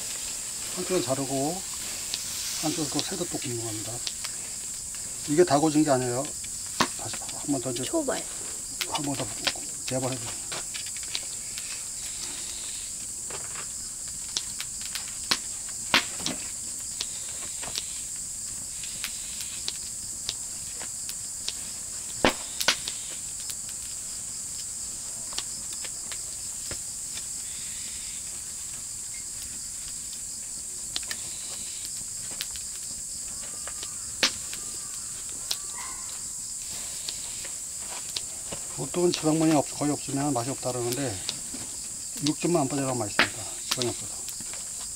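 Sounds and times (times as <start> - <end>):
meat grilling over fire: 0.0 - 44.9
wood fire popping and crackling: 0.0 - 44.9.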